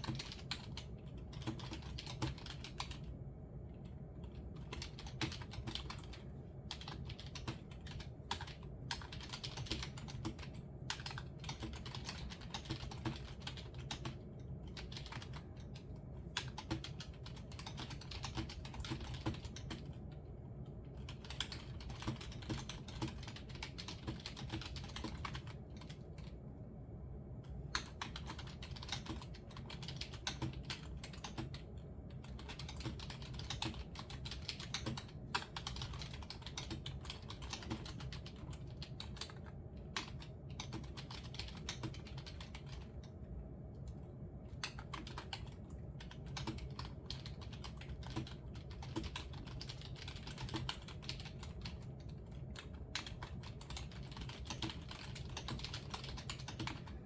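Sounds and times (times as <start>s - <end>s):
typing on computer keyboard: 0.0s - 26.4s, 27.4s - 57.0s
steady low hum: 0.0s - 57.0s.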